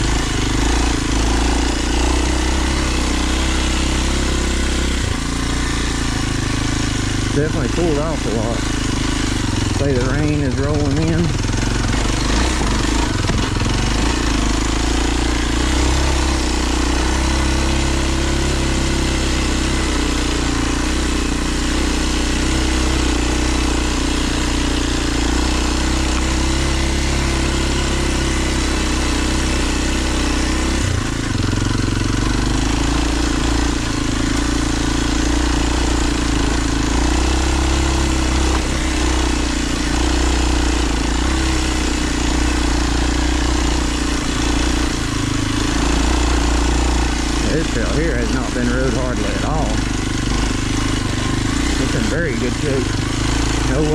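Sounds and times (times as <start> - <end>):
motorcycle engine under load: 0.0 - 53.9.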